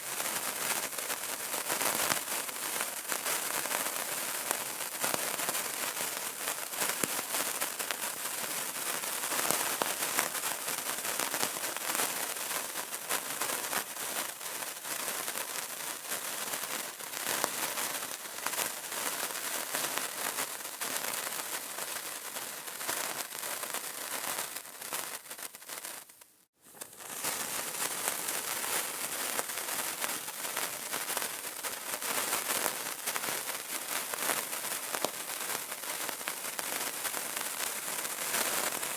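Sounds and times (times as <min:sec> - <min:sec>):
candle crackling: 0:00.0 - 0:38.9.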